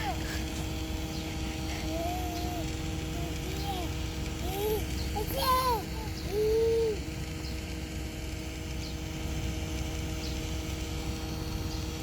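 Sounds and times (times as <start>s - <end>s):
toy bubble machine motor humming: 0.0s - 12.0s.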